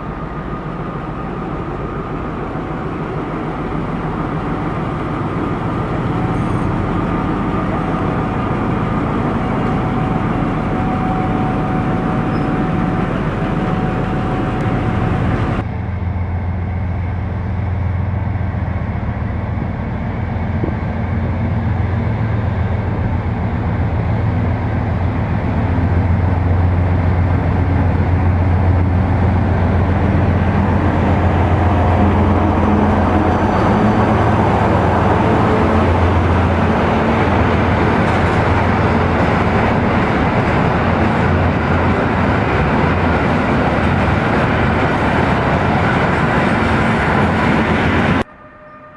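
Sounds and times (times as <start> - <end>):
train running with low hum: 0.0 - 48.9.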